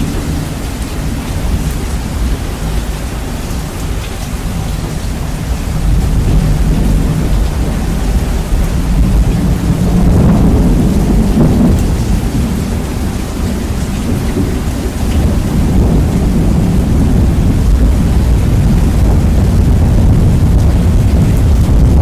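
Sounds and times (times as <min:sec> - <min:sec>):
deep thunder rumble: 0:00.0 - 0:22.0
rain hiss: 0:00.0 - 0:22.0.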